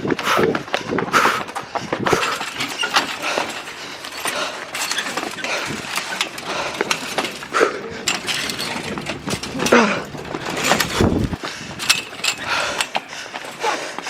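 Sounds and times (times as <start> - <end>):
footsteps crunching over debris: 1.5 - 13.6
clinks and knocks: 2.0 - 13.8.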